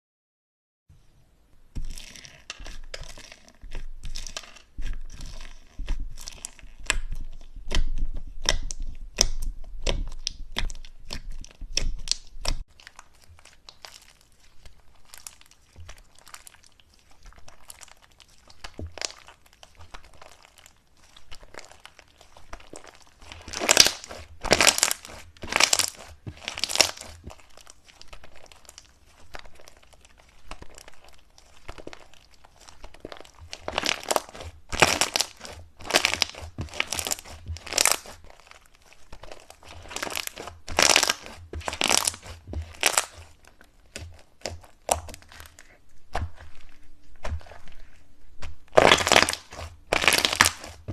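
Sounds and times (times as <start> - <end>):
slime squishes: 1.6 - 50.9
slime crackling and popping: 1.8 - 50.9.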